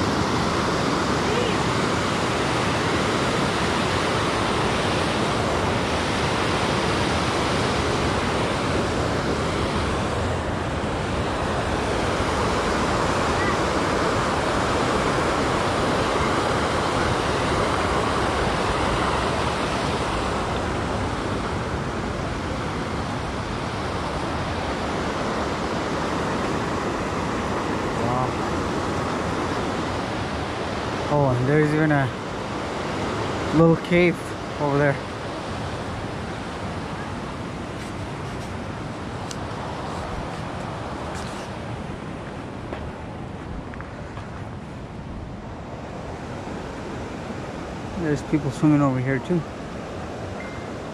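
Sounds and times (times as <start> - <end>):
waterfall and rapids rushing: 0.0 - 50.9.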